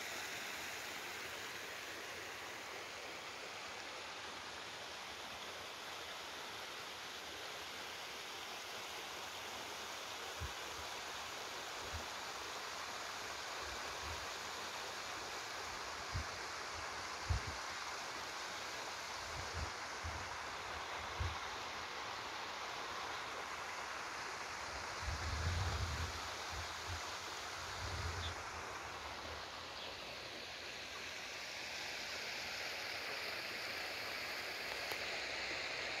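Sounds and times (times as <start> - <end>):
stream water running: 0.0 - 36.0.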